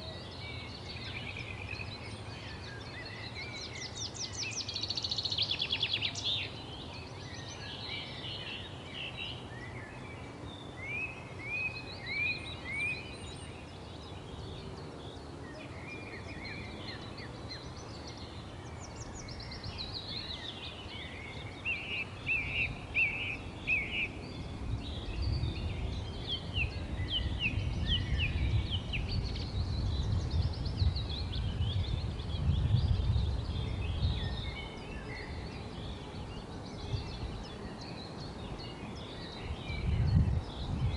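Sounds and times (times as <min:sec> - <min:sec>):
wild birds chirping and singing: 0:00.0 - 0:40.9.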